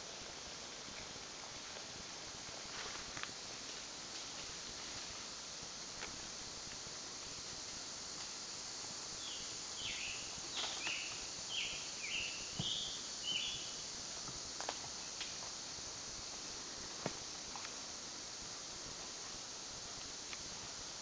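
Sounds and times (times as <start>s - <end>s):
high insect hiss: 0.0s - 21.0s.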